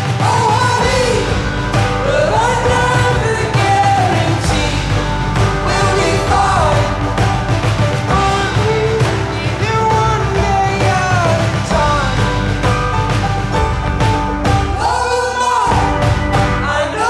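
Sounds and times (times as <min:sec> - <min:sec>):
rock pop song with singing: 0:00.0 - 0:17.0.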